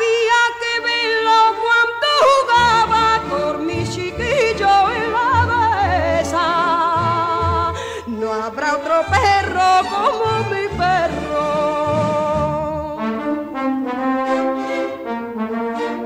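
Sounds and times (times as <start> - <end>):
woman singing with heavy vibrato: 0.0 - 13.6
orchestral accompaniment: 0.1 - 16.0.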